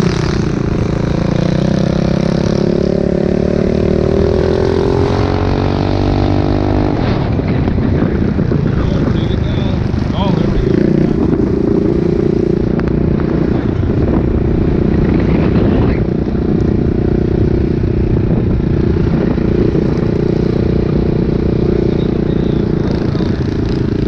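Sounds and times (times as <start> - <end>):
small engine running hard: 0.0 - 24.0
wind rumble on microphone: 0.0 - 24.0.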